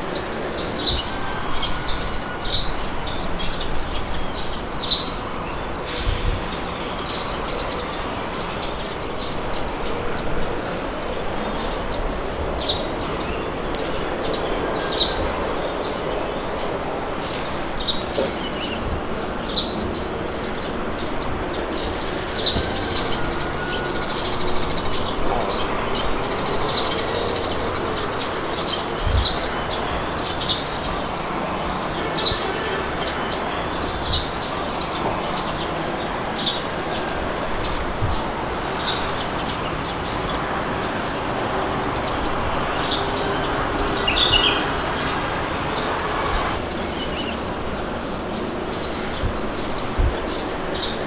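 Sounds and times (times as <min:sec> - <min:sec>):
birds chirping: 0:00.0 - 0:51.0
wind blowing: 0:00.0 - 0:51.0.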